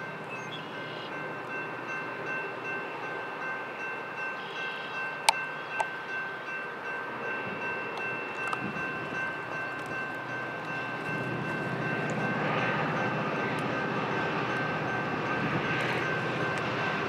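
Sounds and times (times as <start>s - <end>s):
crossing warning bell ringing: 0.0s - 17.0s.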